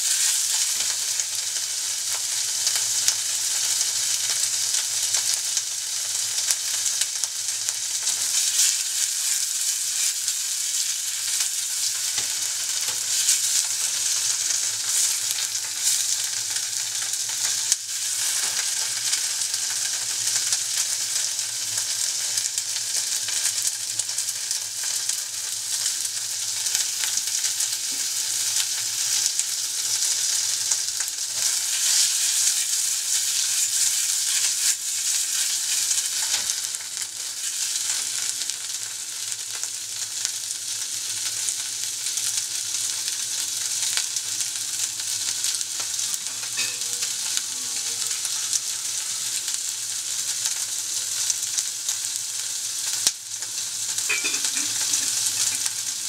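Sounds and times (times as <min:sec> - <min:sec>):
food sizzling in saucepan: 0:00.0 - 0:56.0.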